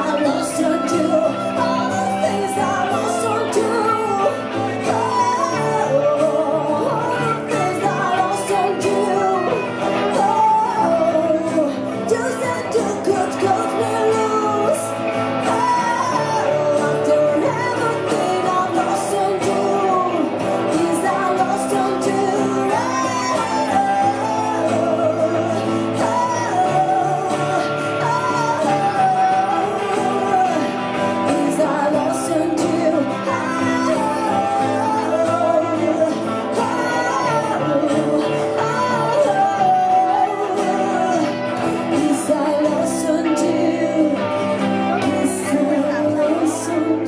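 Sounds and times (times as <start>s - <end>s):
second guitar: 0.0s - 47.0s
strummed acoustic guitar: 0.0s - 47.0s
woman singing: 0.0s - 47.0s.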